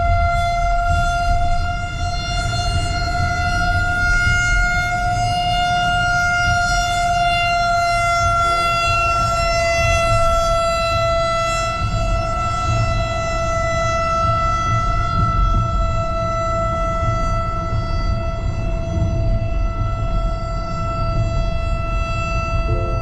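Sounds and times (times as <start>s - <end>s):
low rumble: 0.0s - 5.8s, 7.5s - 23.0s
tornado warning siren: 0.0s - 23.0s.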